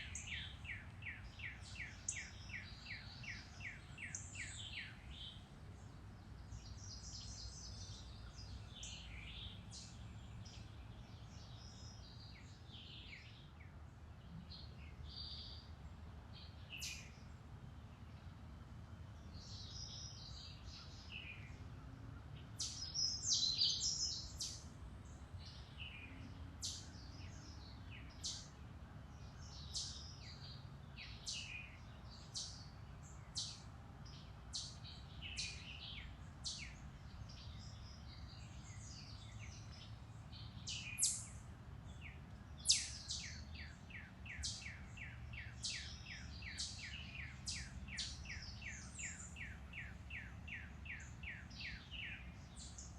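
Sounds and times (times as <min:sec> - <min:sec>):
birds singing and calling: 0:00.0 - 0:15.8, 0:16.4 - 0:17.3, 0:22.2 - 0:52.9.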